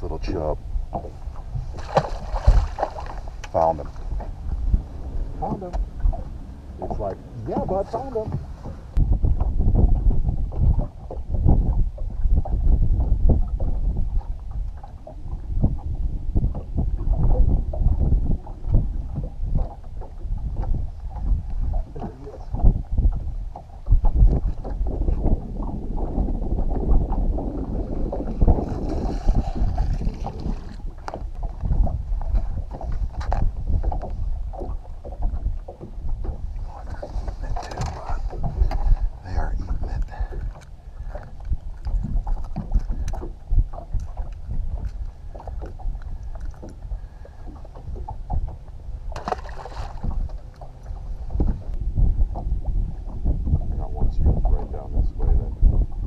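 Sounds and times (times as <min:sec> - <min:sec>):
waves lapping at boat hull: 0:00.0 - 0:56.0
wind rumbling on microphone: 0:00.0 - 0:56.0.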